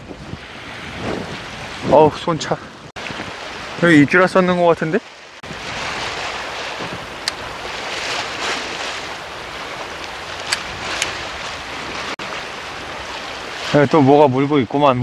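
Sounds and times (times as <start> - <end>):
wind on microphone: 0.0 - 4.4, 5.4 - 15.0
surf washing against rocks: 0.0 - 15.0.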